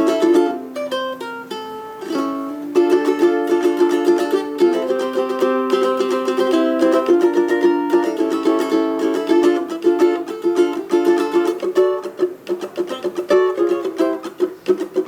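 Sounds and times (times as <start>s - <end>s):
ukulele playing samba: 0.0s - 15.0s.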